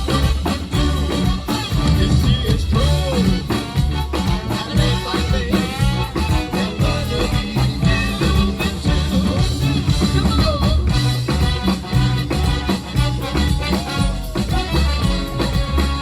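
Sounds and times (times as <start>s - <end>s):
person singing: 0.0s - 16.0s
swing band playing: 0.0s - 16.0s.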